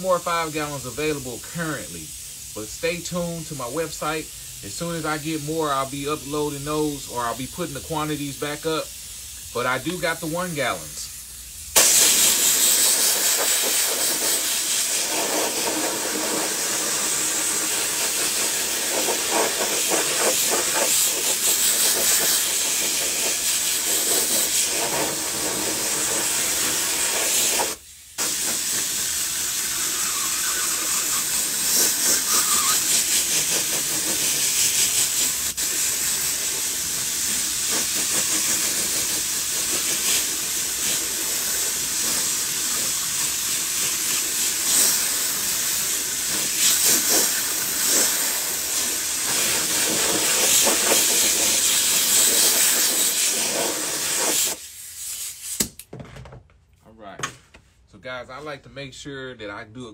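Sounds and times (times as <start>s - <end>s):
spray gun hissing: 0.0s - 55.5s.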